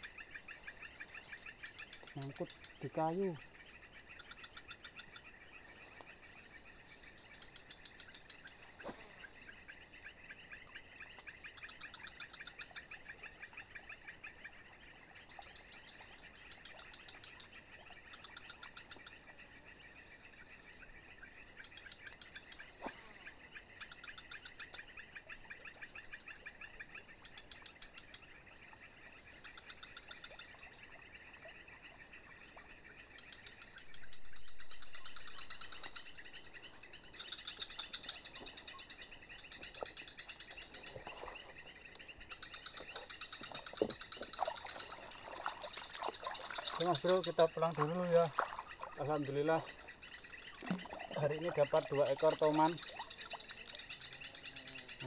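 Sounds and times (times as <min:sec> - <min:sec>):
insect trills: 0:00.0 - 0:55.0
insects buzzing: 0:00.0 - 0:55.0.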